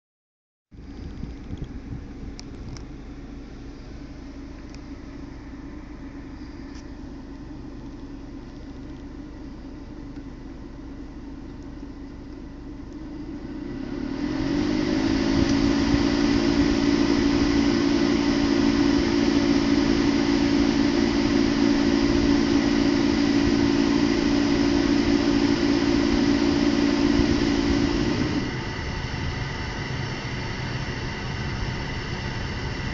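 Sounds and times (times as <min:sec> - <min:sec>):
car air conditioning humming: 0:00.8 - 0:32.9.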